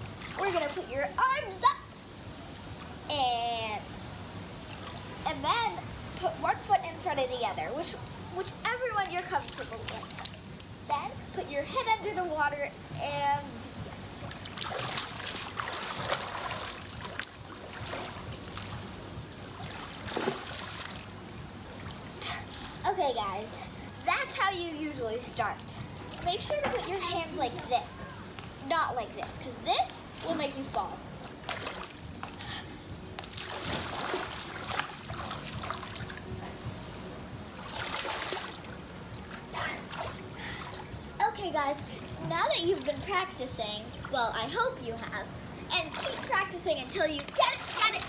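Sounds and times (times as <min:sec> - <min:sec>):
pool water splashing: 0:00.0 - 0:45.0, 0:45.8 - 0:48.0.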